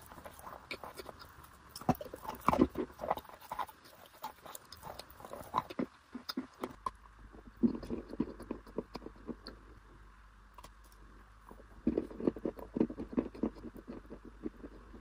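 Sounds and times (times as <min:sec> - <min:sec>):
crunching and chewing: 0:00.0 - 0:09.9, 0:10.5 - 0:15.0.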